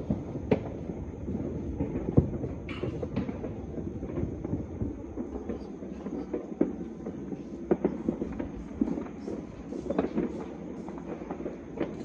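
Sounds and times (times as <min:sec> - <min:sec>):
distant fireworks crackling: 0:00.0 - 0:12.0
sharp firework pops: 0:00.0 - 0:12.0.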